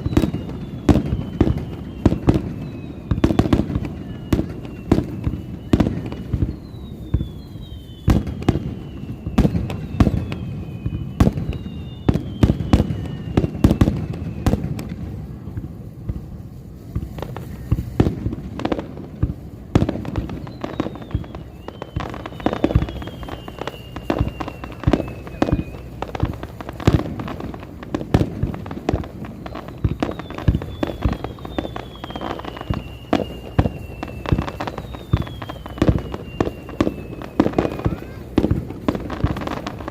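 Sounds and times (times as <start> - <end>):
falling firework whistles: 0.0 - 39.9
fireworks bursts and crackling bangs: 0.0 - 39.9.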